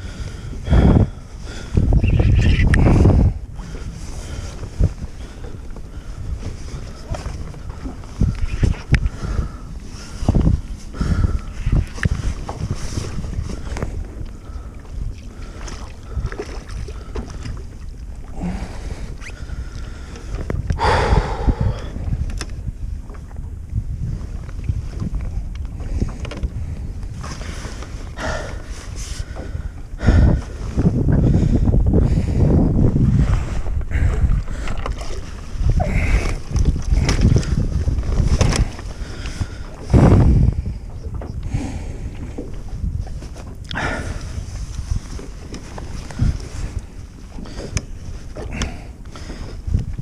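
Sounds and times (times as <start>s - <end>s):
water lapping against kayak hull: 0.0s - 50.0s
wind buffeting microphone: 0.0s - 50.0s.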